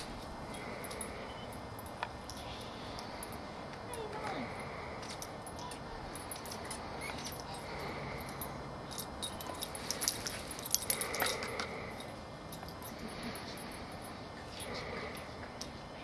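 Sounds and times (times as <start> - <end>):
dog collar tags jingling: 0.0 - 15.8.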